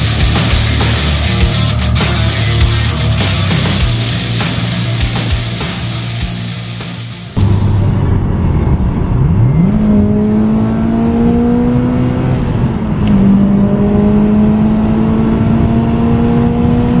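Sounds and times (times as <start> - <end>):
car engine accelerating hard: 0.0 - 17.0
road noise: 0.0 - 17.0.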